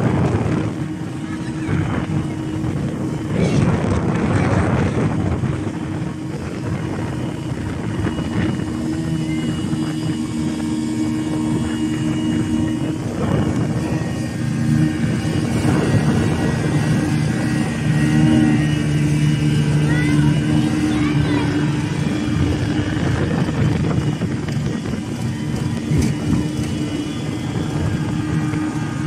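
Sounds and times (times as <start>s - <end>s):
rushing wind and water: 0.0s - 29.0s
speedboat engine droning: 0.0s - 29.0s.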